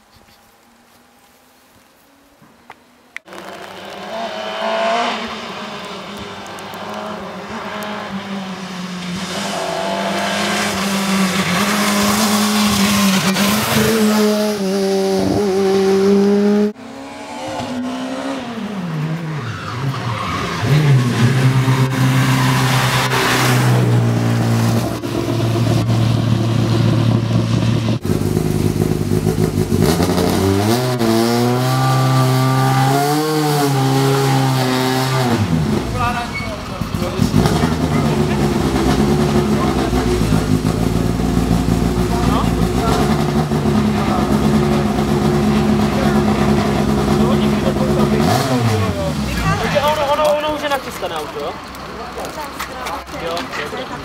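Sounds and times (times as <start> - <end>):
rally car engine at high revs: 3.3 - 50.0.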